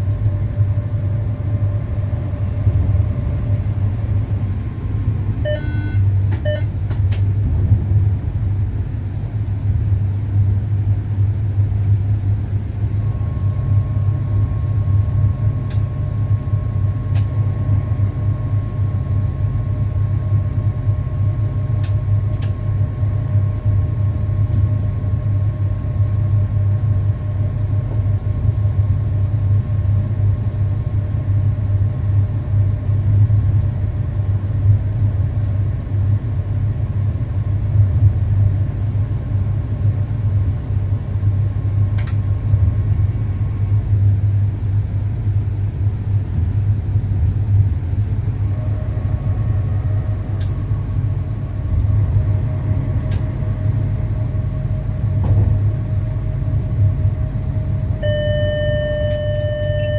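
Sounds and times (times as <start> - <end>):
faint steady whine: 0.0 - 7.3, 8.0 - 26.8, 32.6 - 59.9
train low rumble: 0.0 - 59.9.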